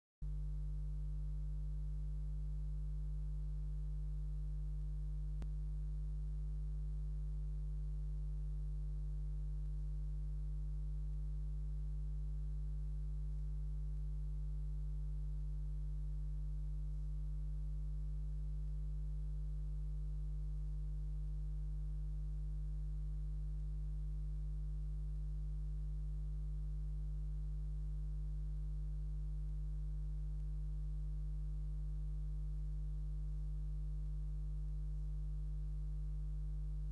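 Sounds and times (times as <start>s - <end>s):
low electrical hum: 0.2s - 36.9s.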